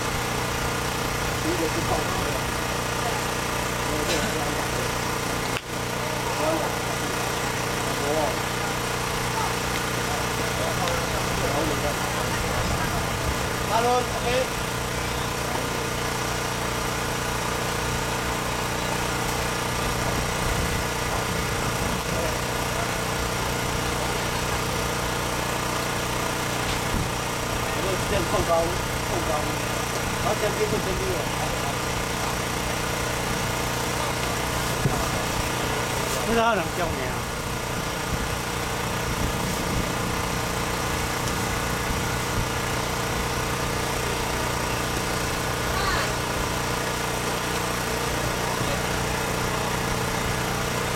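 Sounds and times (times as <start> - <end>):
engine-like drone with hiss: 0.0 - 50.9.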